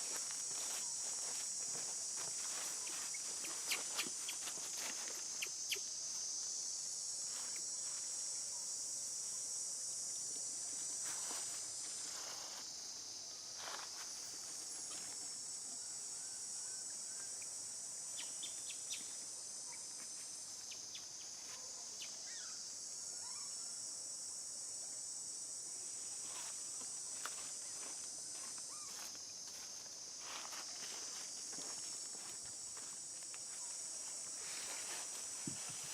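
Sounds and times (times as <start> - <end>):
insect chorus buzzing: 0.0 - 35.9.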